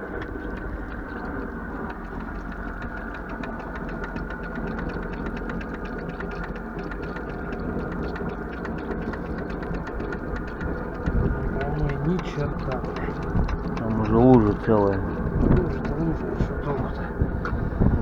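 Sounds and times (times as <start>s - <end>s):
fuel pump ticking: 0.0s - 18.0s.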